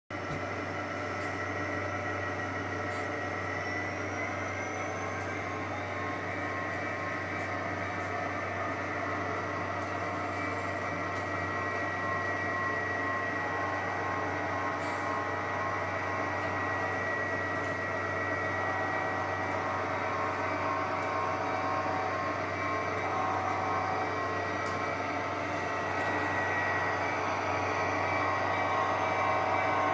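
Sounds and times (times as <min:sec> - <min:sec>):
model train mechanical hum: 0:00.2 - 0:29.9.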